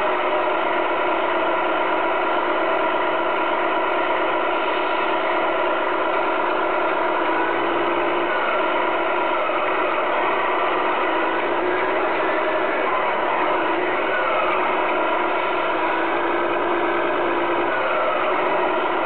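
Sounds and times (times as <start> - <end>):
toy truck motor drone: 0.0 - 19.0.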